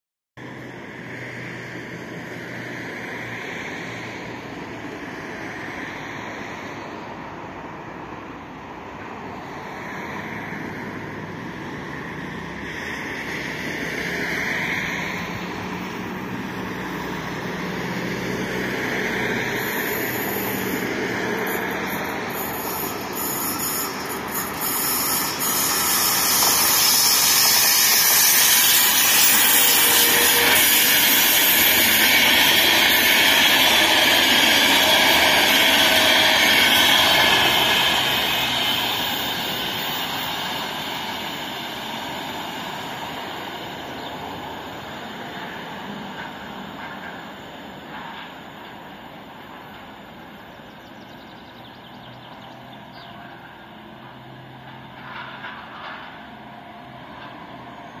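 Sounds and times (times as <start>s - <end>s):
electric locomotive hauling train: 0.4s - 58.0s
rushing rail noise: 0.4s - 58.0s.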